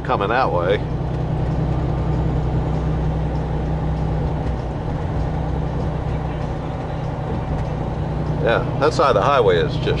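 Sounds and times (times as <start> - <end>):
diesel truck engine drone: 0.0 - 10.0
road noise: 0.0 - 10.0.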